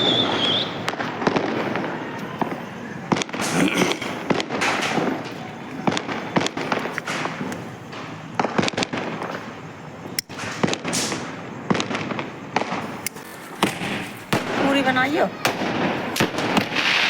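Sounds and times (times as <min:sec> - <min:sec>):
firework bangs and pops: 0:00.0 - 0:17.0
firework crackling hiss: 0:00.0 - 0:17.0.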